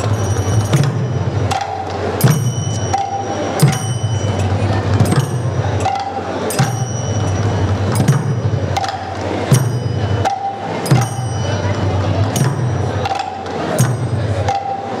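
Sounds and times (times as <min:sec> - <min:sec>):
drums playing fast rhythm: 0:00.0 - 0:15.0
hand cymbals ringing: 0:00.0 - 0:15.0.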